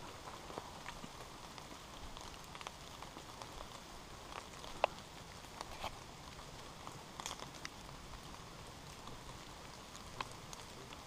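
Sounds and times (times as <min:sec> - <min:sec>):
light rain on leaves: 0:00.0 - 0:11.0.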